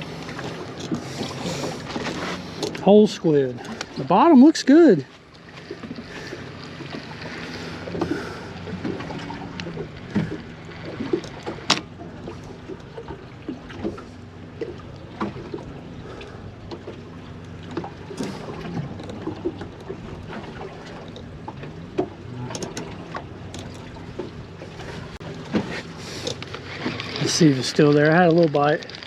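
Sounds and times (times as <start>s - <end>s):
water slapping against hull: 0.0s - 29.0s.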